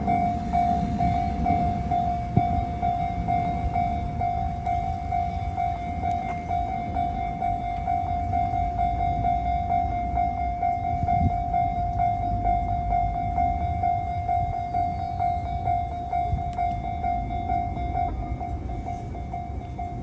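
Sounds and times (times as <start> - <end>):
level crossing warning bell: 0.0 - 20.0
passing train rumble: 0.0 - 20.0.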